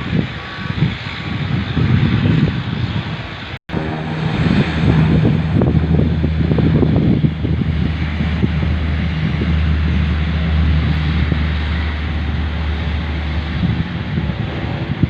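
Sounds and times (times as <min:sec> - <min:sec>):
wind buffeting microphone: 0:00.0 - 0:15.0
aircraft engines droning: 0:00.1 - 0:15.0.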